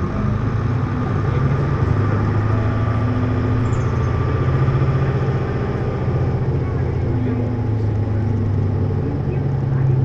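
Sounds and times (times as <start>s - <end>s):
bus diesel engine humming: 0.0s - 10.0s.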